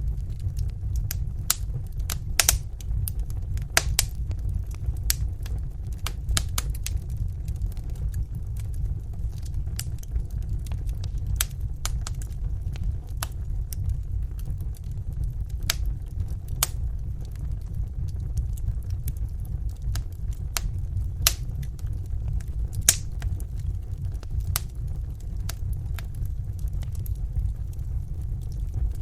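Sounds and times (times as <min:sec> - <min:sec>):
logs popping and crackling: 0:00.0 - 0:29.0
wood fire rumbling: 0:00.0 - 0:29.0.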